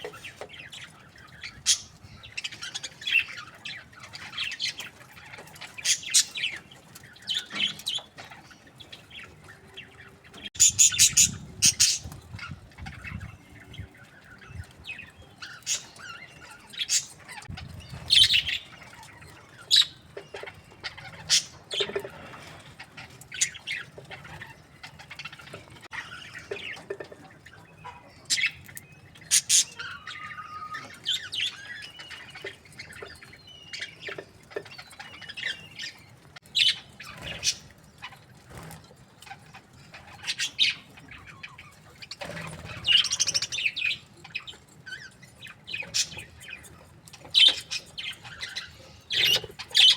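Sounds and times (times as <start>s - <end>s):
budgerigars chirping and squawking: 0.0s - 49.9s.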